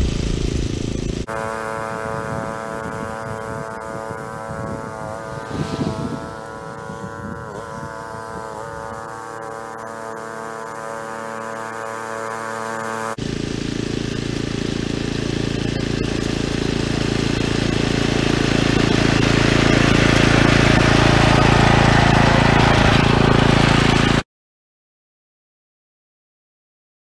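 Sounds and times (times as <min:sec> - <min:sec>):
gas reel mower cutting grass: 0:00.0 - 0:24.2.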